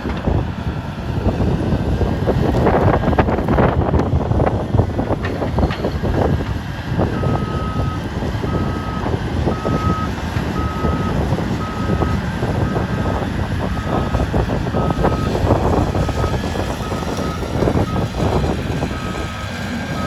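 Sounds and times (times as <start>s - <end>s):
excavator running under load: 0.0s - 20.0s.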